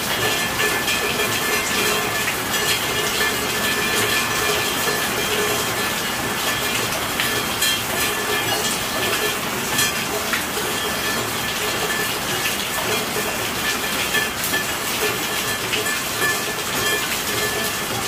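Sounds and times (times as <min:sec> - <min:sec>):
raindrops ticking and pinging: 0:00.0 - 0:18.0
steady rainfall: 0:00.0 - 0:18.0.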